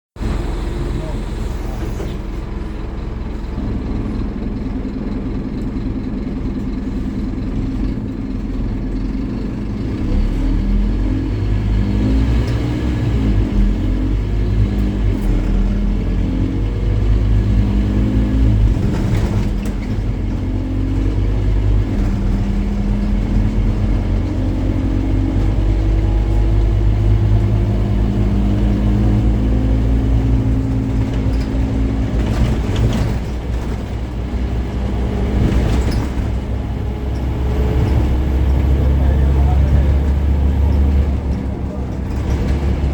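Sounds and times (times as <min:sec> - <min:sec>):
bus engine pulling through gears: 0:00.2 - 0:42.9.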